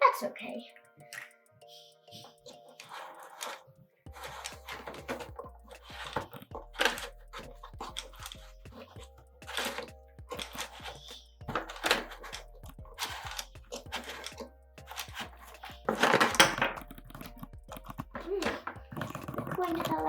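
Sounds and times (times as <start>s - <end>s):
background music with low bass: 0.0s - 20.0s
toy capsules knocking and clicking: 0.7s - 20.0s.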